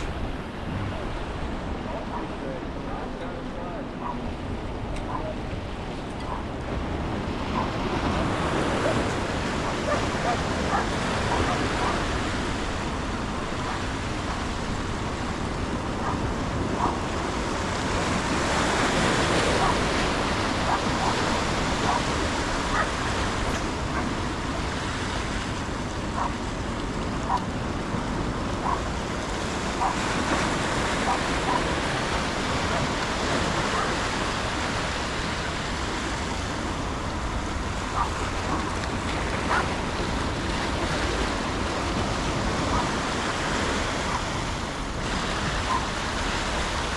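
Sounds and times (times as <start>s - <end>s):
river water rushing: 0.0s - 46.9s
wind buffeting microphone: 0.0s - 46.9s.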